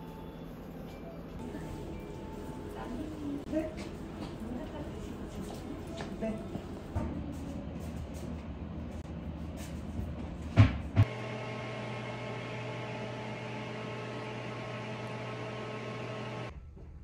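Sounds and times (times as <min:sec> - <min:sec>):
electrical appliance hum: 0:00.0 - 0:17.0.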